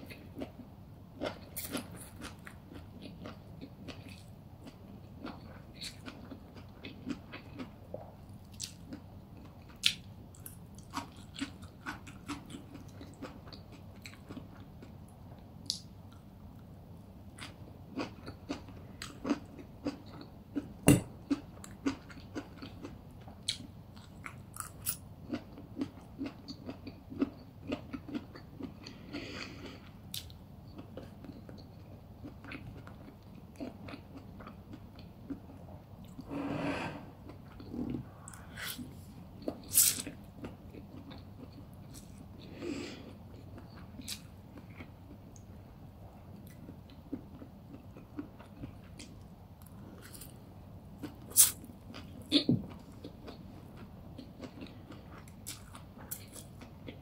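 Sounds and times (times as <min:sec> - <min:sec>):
crunchy chewing: 0:01.2 - 0:14.9, 0:17.3 - 0:36.2, 0:37.2 - 0:45.2, 0:46.4 - 0:50.4, 0:51.0 - 0:57.0.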